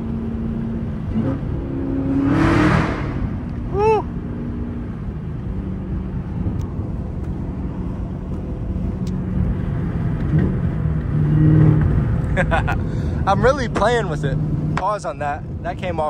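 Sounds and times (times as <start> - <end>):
car engine drone: 0.0 - 16.0
road noise: 0.0 - 16.0.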